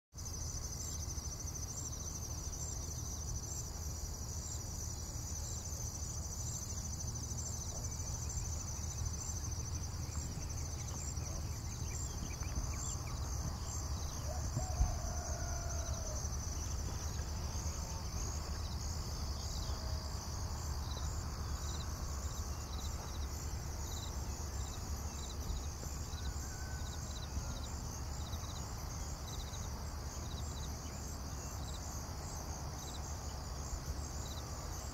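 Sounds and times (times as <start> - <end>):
insects trilling: 0.2 - 34.9.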